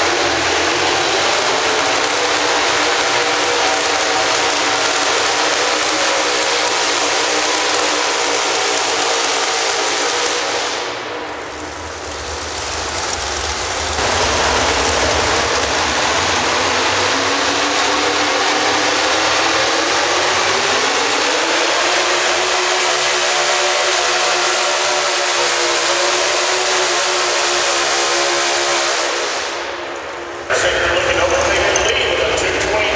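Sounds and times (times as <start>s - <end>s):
tractor engine running hard: 0.0s - 32.9s.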